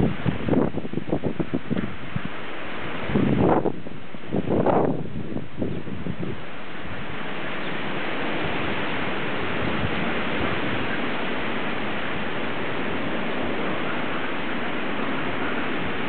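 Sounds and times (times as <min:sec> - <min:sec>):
gale-force wind rushing: 0:00.0 - 0:16.0.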